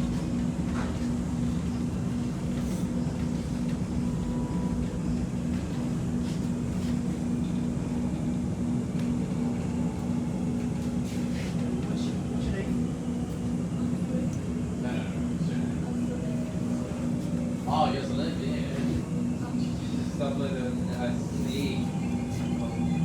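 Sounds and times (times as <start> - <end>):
train carriage interior hum: 0.0 - 23.0.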